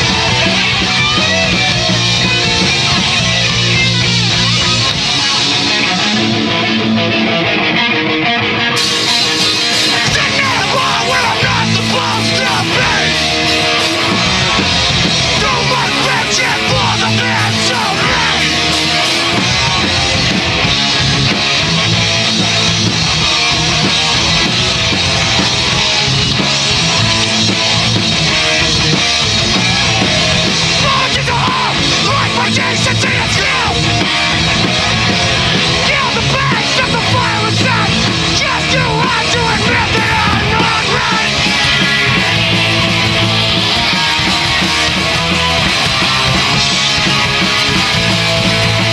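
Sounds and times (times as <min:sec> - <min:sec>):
electric guitars: 0:00.0 - 0:48.9
drum kit and cymbals: 0:08.8 - 0:48.9.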